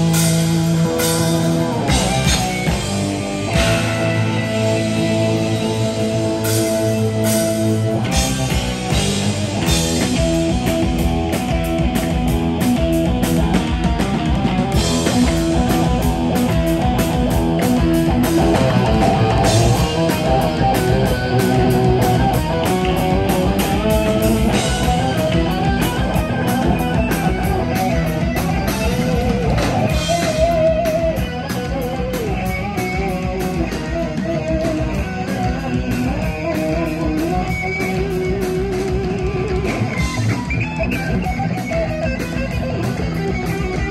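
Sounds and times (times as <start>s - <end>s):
bass guitar: 0.0s - 43.9s
distorted electric guitars: 0.0s - 43.9s
drum kit: 0.0s - 43.9s
wavering guitar lead lines: 0.0s - 43.9s.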